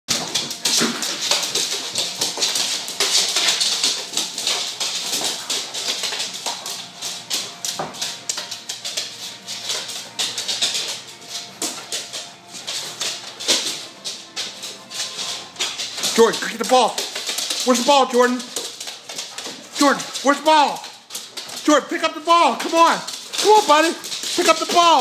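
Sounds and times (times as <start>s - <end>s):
dog claws scrabbling on wooden floor: 0.1s - 21.8s, 22.5s - 25.0s.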